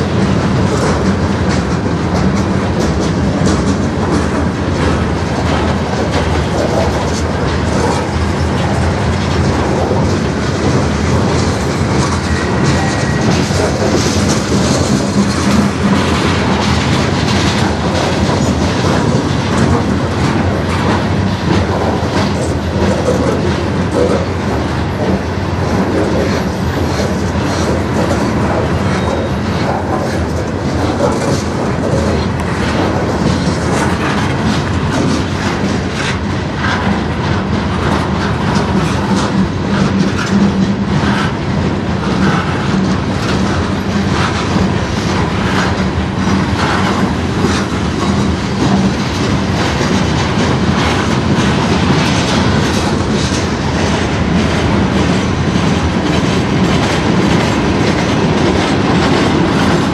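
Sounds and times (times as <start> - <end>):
steel wheels rumbling on rail: 0.0 - 59.9
wheels clacking over rail joints: 0.0 - 59.9.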